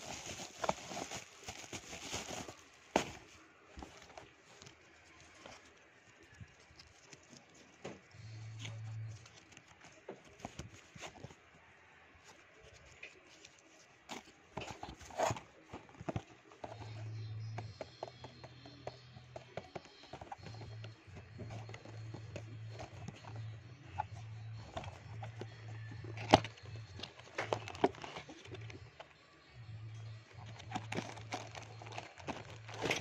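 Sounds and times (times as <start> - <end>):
cardboard box being handled: 0.0 - 5.7, 8.7 - 11.4, 12.6 - 29.1, 30.4 - 33.0.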